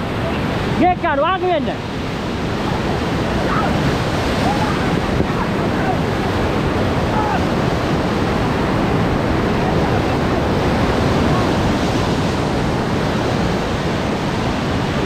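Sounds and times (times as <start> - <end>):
whitewater rapids rushing: 0.0 - 15.0
wind buffeting microphone: 1.7 - 15.0.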